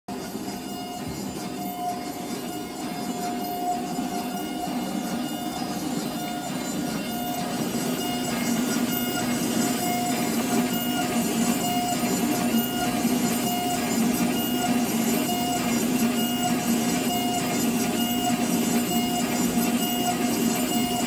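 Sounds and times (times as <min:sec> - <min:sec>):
dental milling machine whining: 0:00.1 - 0:21.0.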